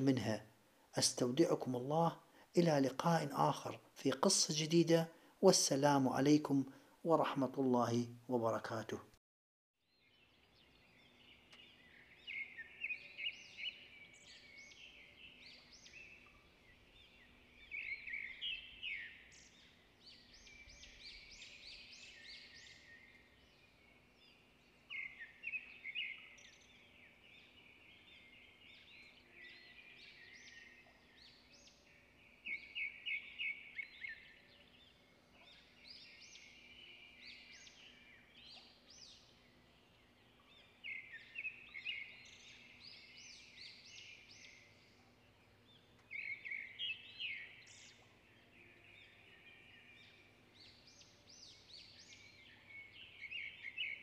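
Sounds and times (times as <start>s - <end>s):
songbirds singing and chirping: 0.0s - 9.2s, 9.8s - 54.0s.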